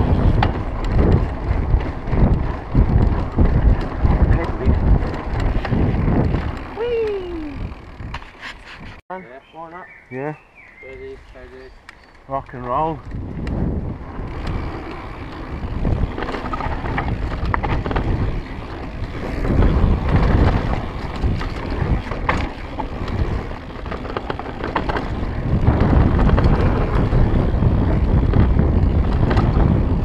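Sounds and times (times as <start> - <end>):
bike clicks and rattles: 0.0 - 9.0, 11.4 - 30.0
bike tyres rumbling over dirt: 0.0 - 9.0, 12.3 - 30.0
wind buffeting microphone: 0.0 - 9.0, 10.8 - 30.0.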